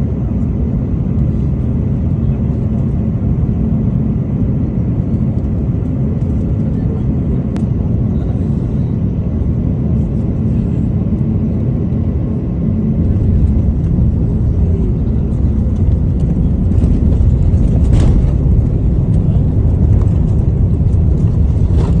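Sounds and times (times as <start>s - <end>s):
airliner engine roar in cabin: 0.0s - 22.0s.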